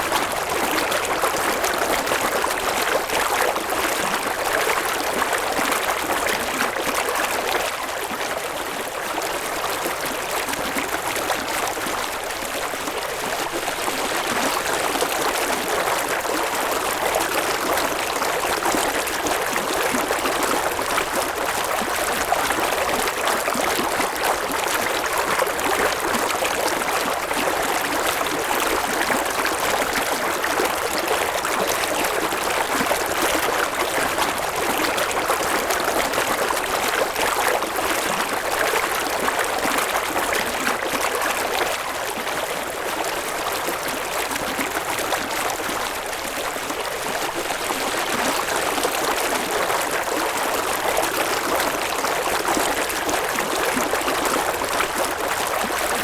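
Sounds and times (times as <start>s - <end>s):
river water babbling over stones: 0.1s - 56.0s.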